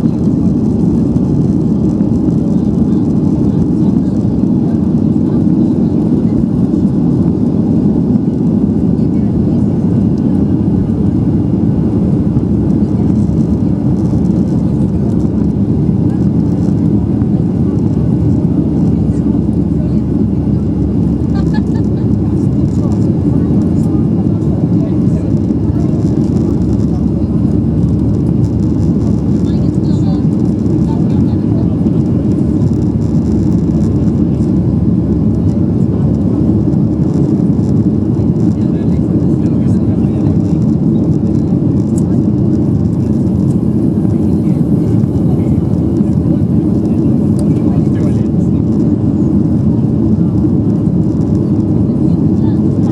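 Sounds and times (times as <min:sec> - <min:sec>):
jet engine cabin rumble: 0:00.0 - 0:52.9.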